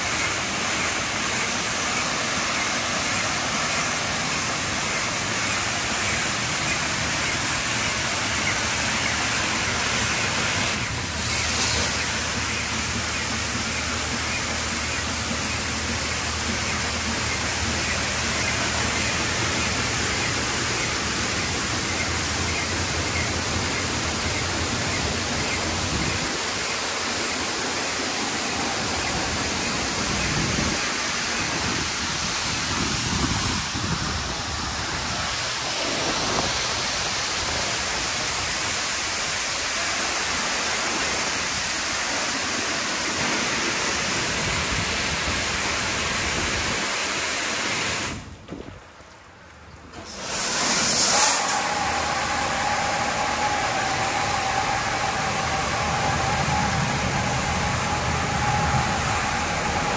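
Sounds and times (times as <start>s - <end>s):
high-pressure water spray on car: 0.0s - 48.2s, 50.0s - 59.9s.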